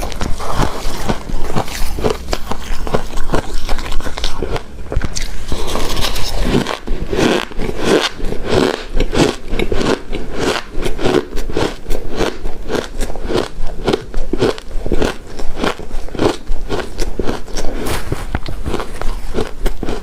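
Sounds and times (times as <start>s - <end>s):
crunching and chewing ice: 0.0s - 20.0s.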